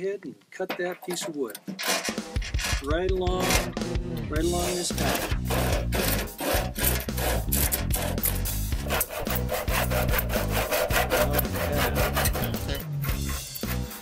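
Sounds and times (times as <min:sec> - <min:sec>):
hand saw cutting wood: 0:01.1 - 0:03.8, 0:04.4 - 0:14.0
background music: 0:01.8 - 0:14.0.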